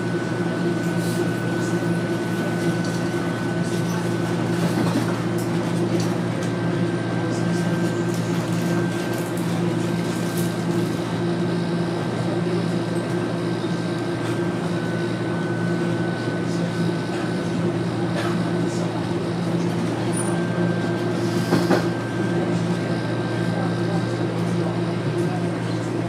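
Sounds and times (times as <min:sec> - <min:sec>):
subway car rumbling: 0:00.0 - 0:26.0.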